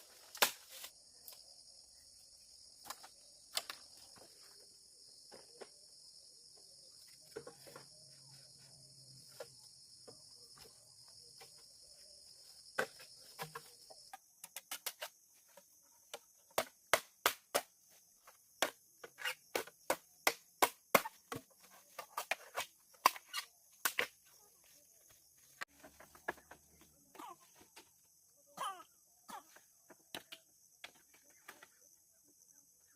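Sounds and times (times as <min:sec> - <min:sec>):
insects chirping: 0:00.0 - 0:32.9.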